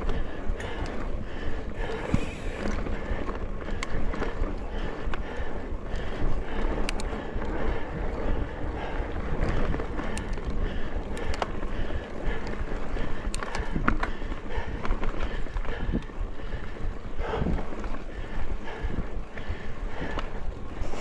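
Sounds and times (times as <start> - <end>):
bike clicks and rattles: 0.0 - 21.0
bike tyres on dirt: 0.0 - 21.0
wind buffeting microphone: 0.0 - 21.0.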